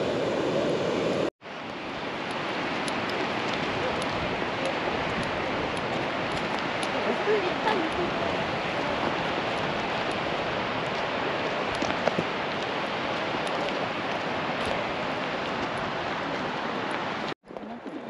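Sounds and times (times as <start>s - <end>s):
steady rushing noise: 0.0s - 17.4s.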